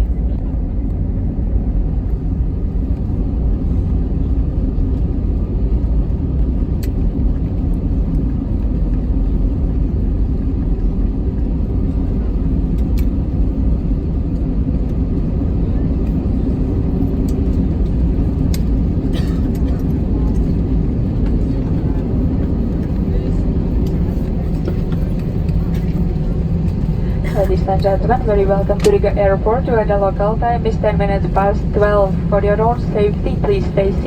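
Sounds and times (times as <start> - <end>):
aircraft engines rumbling: 0.0 - 34.0.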